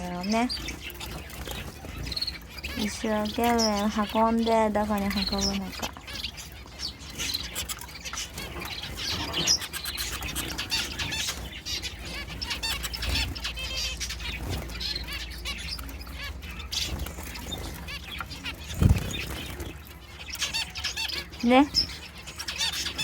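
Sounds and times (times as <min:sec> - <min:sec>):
finches chirping: 0:00.0 - 0:23.0
finches fluttering and pecking: 0:00.0 - 0:23.0.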